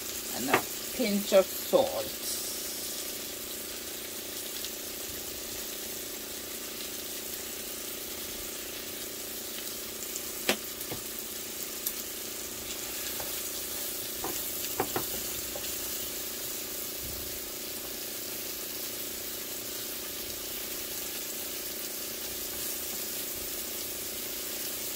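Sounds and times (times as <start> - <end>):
mushrooms sizzling in a pan: 0.0 - 24.9.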